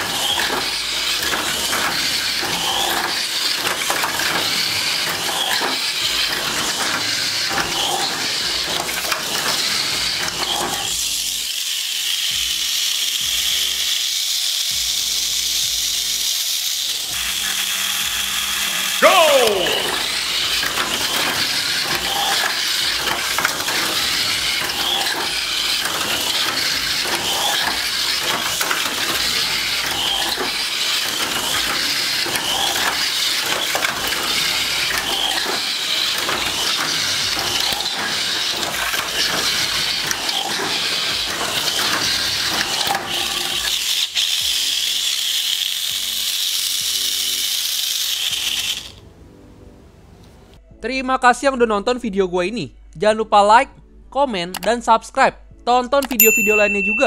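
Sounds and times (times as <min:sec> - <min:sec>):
toy car clattering on track: 0:00.0 - 0:49.0
toy car motor whine: 0:00.0 - 0:49.0.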